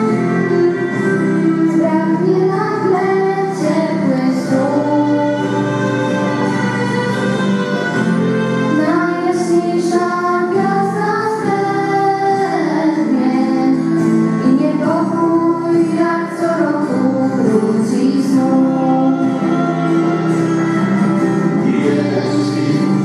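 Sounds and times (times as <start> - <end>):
girl singing into a microphone: 0.0 - 20.3
accompanying music: 0.0 - 23.0.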